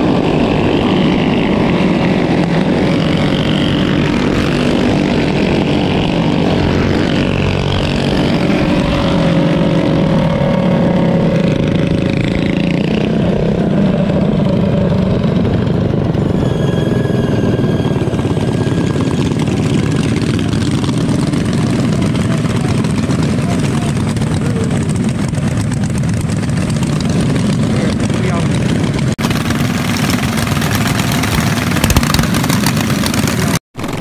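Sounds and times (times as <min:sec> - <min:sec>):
heavy low rumble: 0:00.0 - 0:34.0
mini bike engines revving: 0:00.0 - 0:34.0.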